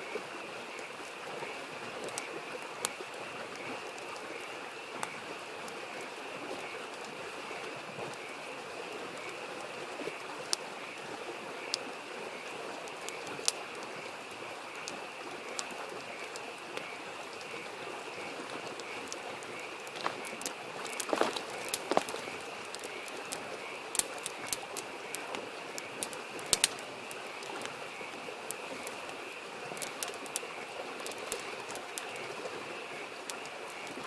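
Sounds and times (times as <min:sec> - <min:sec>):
babbling stream: 0:00.0 - 0:34.0
frogs chorus: 0:00.0 - 0:34.0
campfire crackling and popping: 0:00.1 - 0:34.0.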